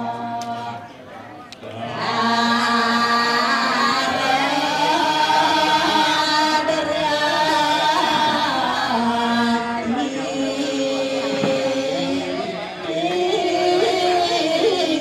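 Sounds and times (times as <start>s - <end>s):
voices chanting held notes: 0.0s - 15.0s.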